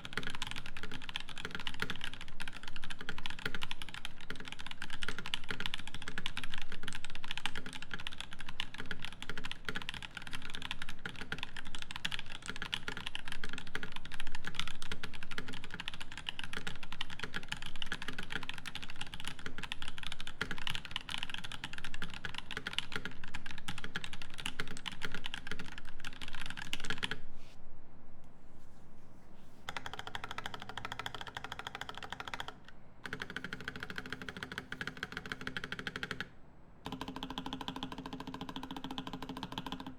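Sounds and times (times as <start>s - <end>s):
mechanical keyboard typing: 0.0s - 27.2s, 29.7s - 39.9s.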